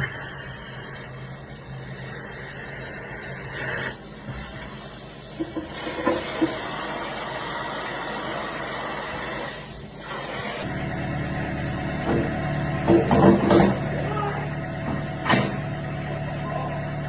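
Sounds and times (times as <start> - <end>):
torch hissing: 0.0 - 16.2
machine engine running: 0.0 - 17.0.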